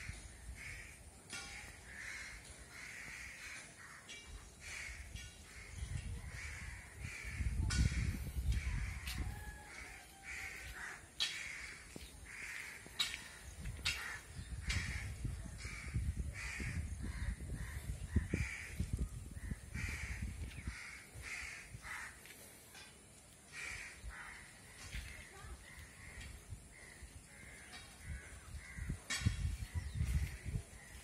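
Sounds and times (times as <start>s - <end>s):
crows cawing: 0.0s - 29.2s.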